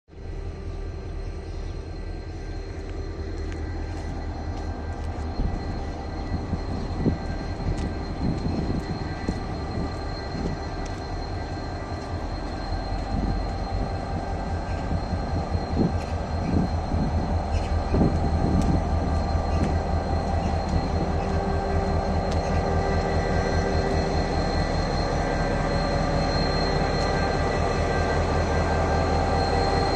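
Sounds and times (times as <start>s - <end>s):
diesel locomotive idling: 0.1s - 29.9s.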